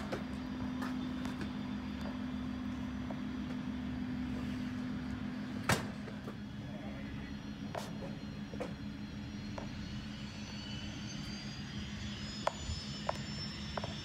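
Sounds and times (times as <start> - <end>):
jet engines humming: 0.0 - 14.0.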